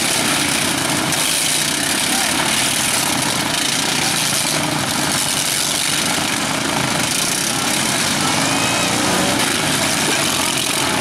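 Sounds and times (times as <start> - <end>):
lawn mower engines running: 0.0 - 11.0.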